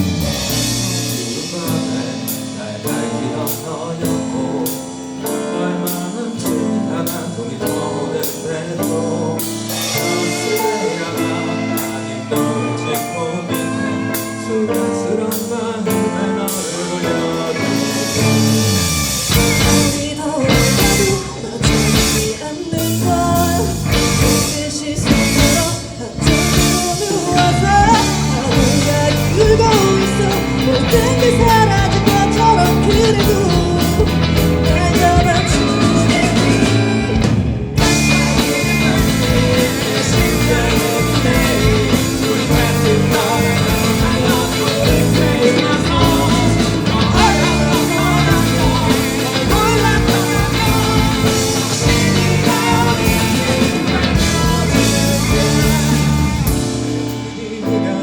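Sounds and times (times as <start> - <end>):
drum kit: 0.0 - 57.9
live rock band playing: 0.0 - 58.0
person singing: 0.0 - 58.0.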